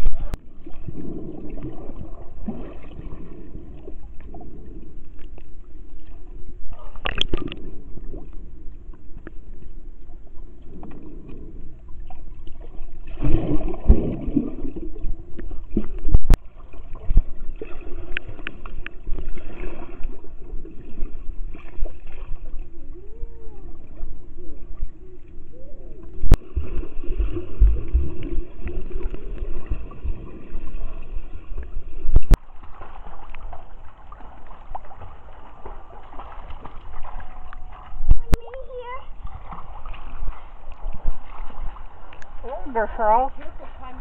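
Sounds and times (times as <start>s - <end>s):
underwater water churning: 0.0s - 44.0s.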